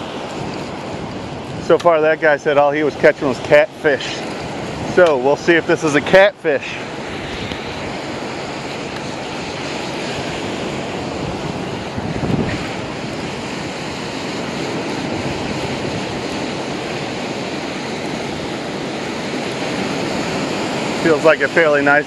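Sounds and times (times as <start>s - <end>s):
surf breaking on sand: 0.0s - 22.0s
wind on microphone: 0.0s - 22.0s.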